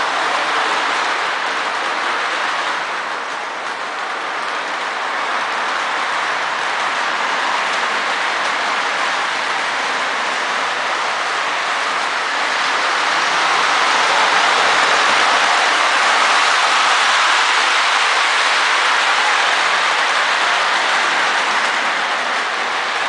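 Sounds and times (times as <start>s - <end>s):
model train motor whirring: 0.0s - 23.0s
wheels on rails: 0.0s - 23.0s.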